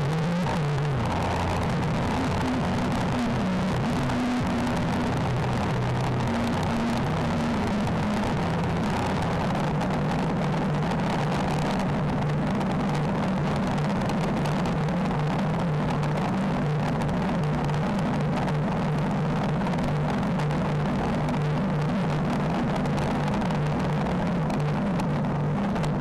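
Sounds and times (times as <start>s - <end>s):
motorcycle engine humming: 0.0s - 26.0s
wind and road noise: 0.0s - 26.0s.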